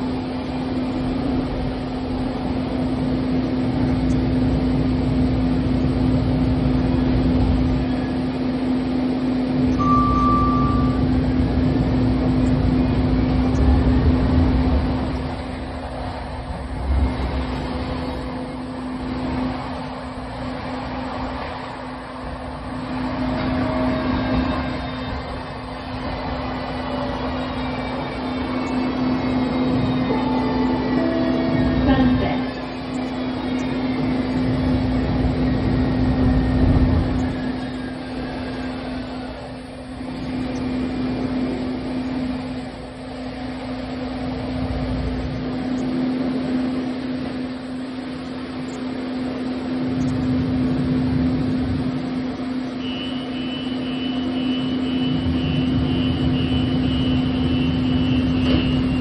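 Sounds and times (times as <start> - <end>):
faint rising whines: 0.0 - 59.0
light rail vehicle hum: 0.0 - 59.0
low track rumble: 0.0 - 59.0.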